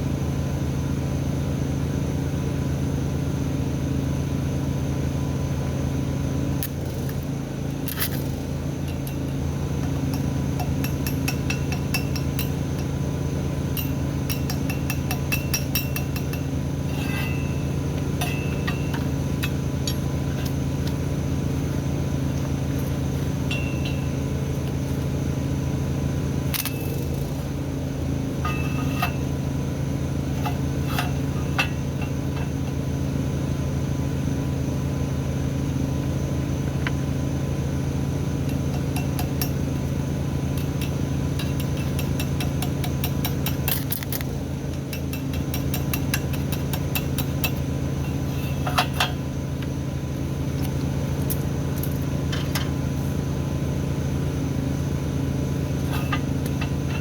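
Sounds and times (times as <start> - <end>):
machine drone: 0.0 - 57.0.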